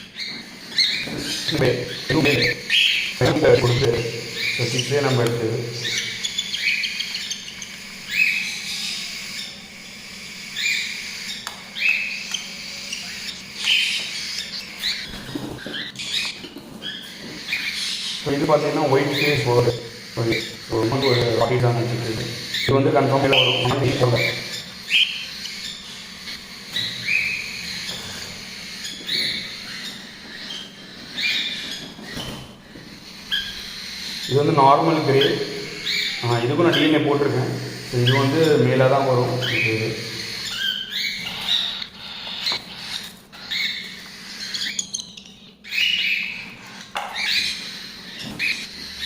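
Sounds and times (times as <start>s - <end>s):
cockatiel chicks begging calls: 0.0s - 49.0s.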